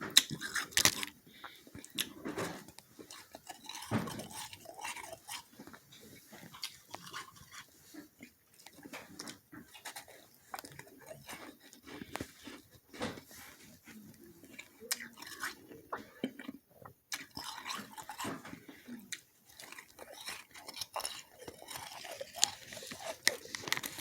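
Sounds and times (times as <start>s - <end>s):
person chewing frost: 0.0s - 24.0s.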